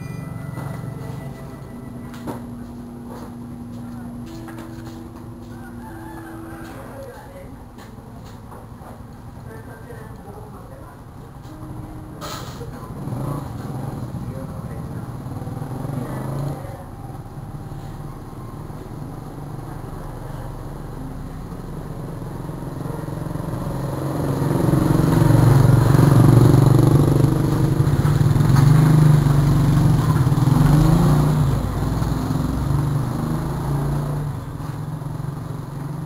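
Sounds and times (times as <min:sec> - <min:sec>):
vehicle engine hum passing by: 0:00.0 - 0:36.0.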